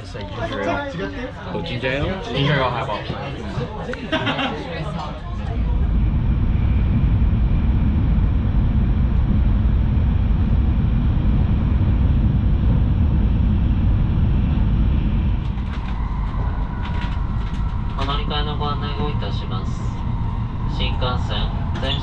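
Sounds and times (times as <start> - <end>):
train interior rumble: 1.6 - 22.0.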